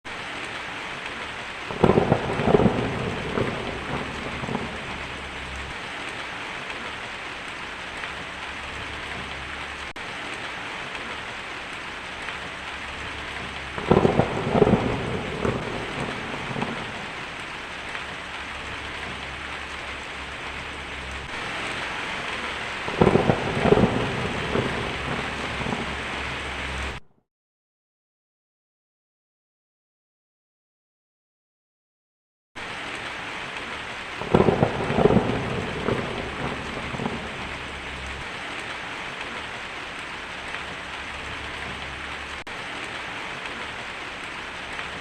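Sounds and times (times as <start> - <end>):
heavy rain: 0.1 - 27.0, 32.6 - 45.0
thunder rumbling: 0.1 - 27.0, 33.6 - 45.0.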